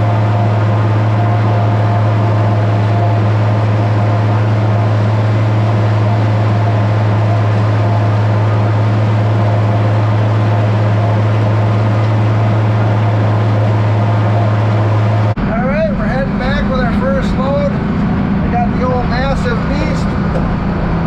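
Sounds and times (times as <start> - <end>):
tractor and forage harvester droning: 0.0 - 21.0.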